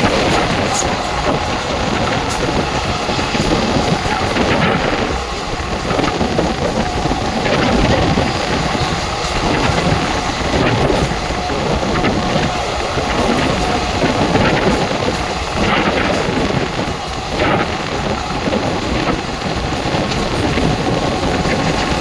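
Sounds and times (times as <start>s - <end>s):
passenger coach rumbling at speed: 0.0s - 22.0s.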